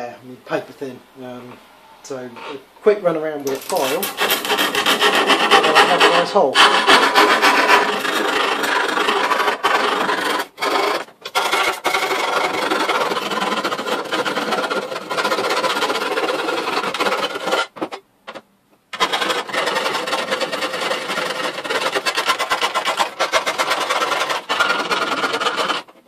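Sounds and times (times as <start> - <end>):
hand file rasping: 3.4 - 18.0, 19.0 - 26.0.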